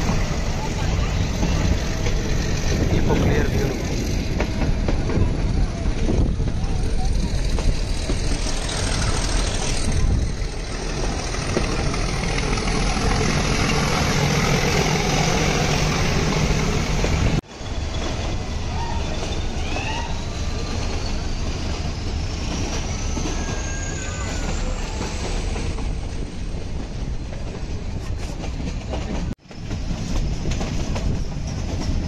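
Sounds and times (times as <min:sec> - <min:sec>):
train wheels and engine rumble: 0:00.0 - 0:32.0.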